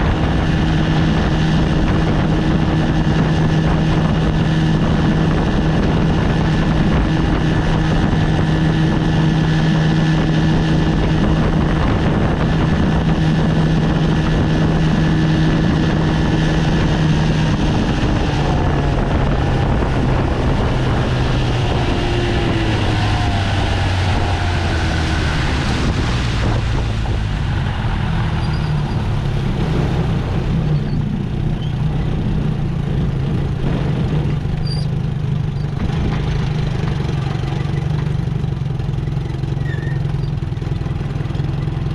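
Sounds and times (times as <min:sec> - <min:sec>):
outboard motor running: 0:00.0 - 0:41.9.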